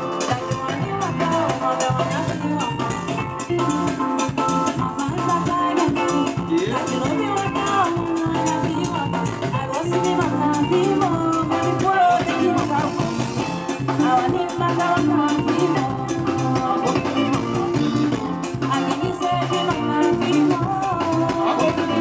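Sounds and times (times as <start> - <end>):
live band playing dance tune: 0.0 - 22.0
woman singing into microphone: 0.0 - 22.0.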